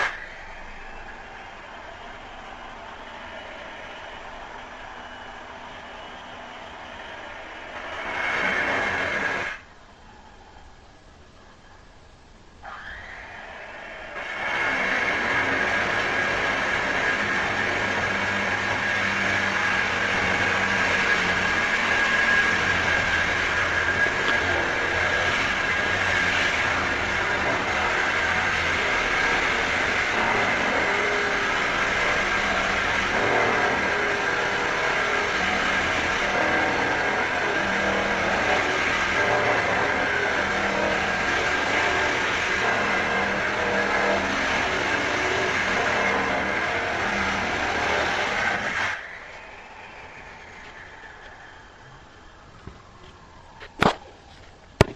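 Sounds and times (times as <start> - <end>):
power drill whining: 4.2 - 9.6, 12.7 - 53.4.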